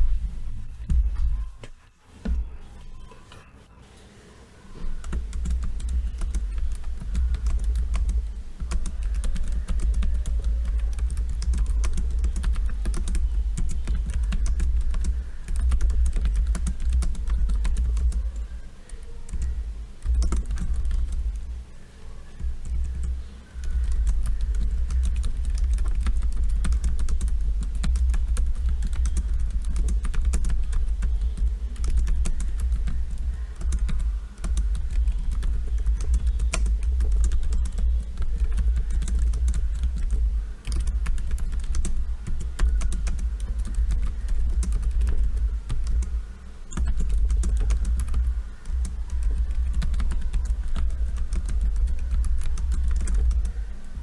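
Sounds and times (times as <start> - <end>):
fast keyboard typing: 4.9 - 21.6, 22.4 - 54.0.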